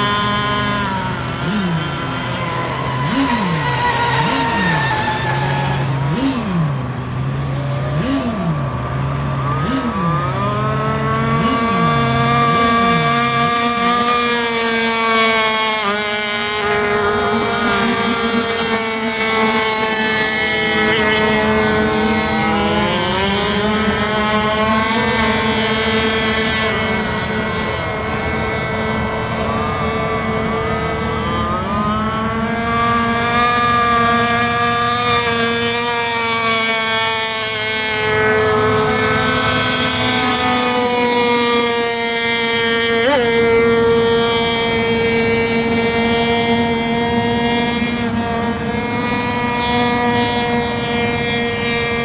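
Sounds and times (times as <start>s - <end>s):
racing boat motor whine: 0.0s - 52.0s
second boat motor whine: 0.0s - 52.0s.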